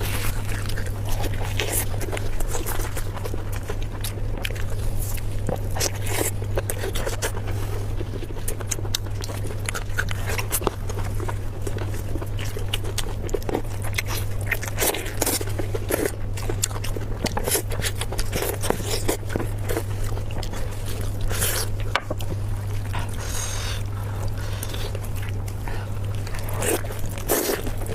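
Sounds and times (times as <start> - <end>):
chewing crunches: 0.0 - 27.9
low steady hum: 0.0 - 27.9.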